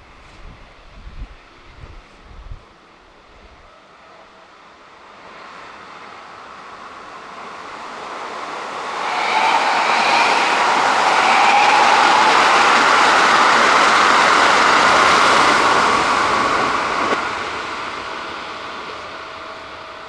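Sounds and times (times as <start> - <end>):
electric train passing reversed: 0.0 - 20.0
thin whining tones: 0.0 - 20.0.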